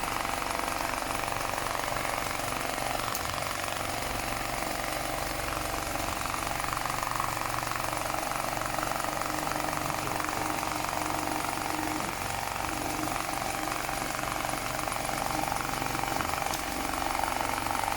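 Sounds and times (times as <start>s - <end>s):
sewing machine stitching: 0.0s - 17.9s.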